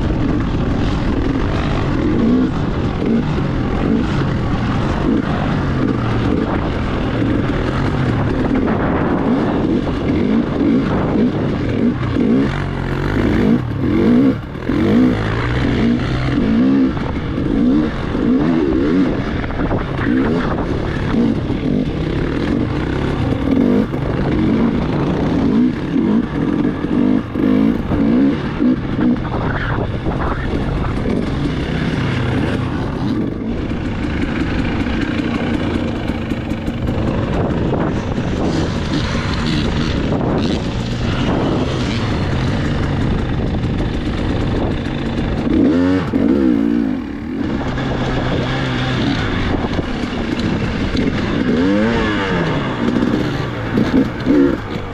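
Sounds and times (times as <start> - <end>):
dirt bike engine revving: 0.0 - 54.9
wind on microphone: 0.0 - 54.9.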